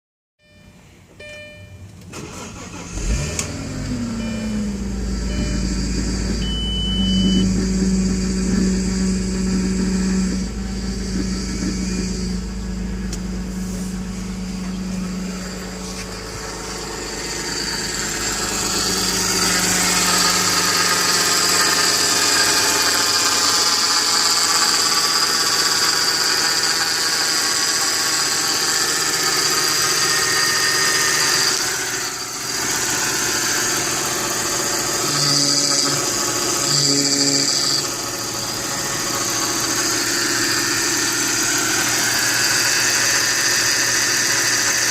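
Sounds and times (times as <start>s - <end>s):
car engine running: 1.2s - 44.9s
high-pitched squealing whine: 2.2s - 44.9s.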